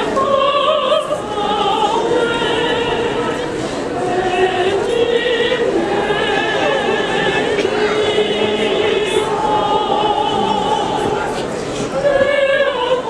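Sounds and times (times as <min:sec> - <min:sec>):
choir singing unaccompanied: 0:00.0 - 0:13.0.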